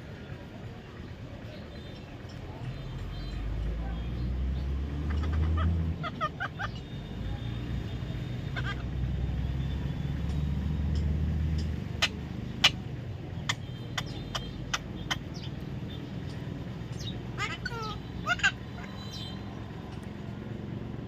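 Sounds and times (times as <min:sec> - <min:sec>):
motor vehicle rumble: 0:00.0 - 0:21.0
bird chirps: 0:01.4 - 0:12.8, 0:13.4 - 0:20.2.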